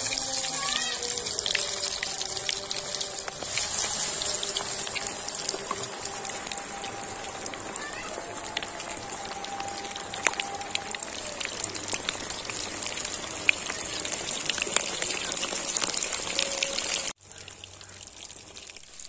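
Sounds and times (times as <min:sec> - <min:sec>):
meat deep-frying in oil: 0:00.0 - 0:19.0.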